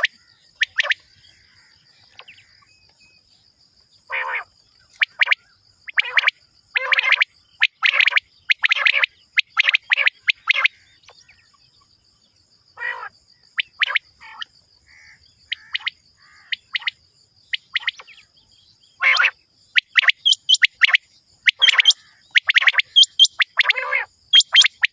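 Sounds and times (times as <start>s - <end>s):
quail calling: 0.0s - 2.6s, 4.1s - 11.4s, 12.8s - 17.0s, 19.0s - 24.9s.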